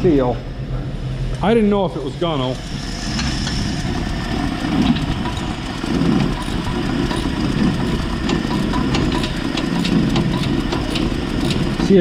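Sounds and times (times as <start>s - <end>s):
engine idling with exhaust leak: 0.6s - 12.0s.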